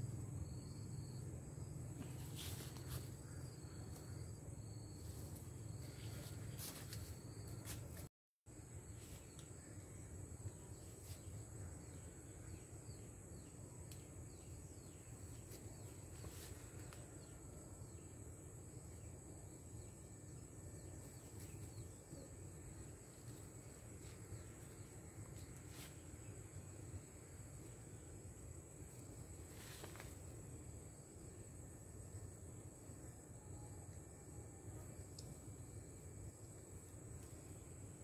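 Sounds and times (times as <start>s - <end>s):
crickets trilling: 0.0s - 38.0s.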